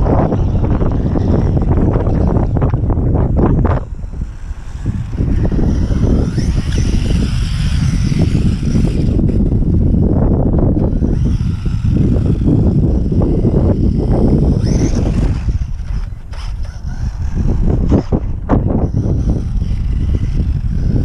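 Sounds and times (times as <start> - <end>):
electric motor whine: 0.0 - 21.0
wind buffeting microphone: 0.0 - 21.0.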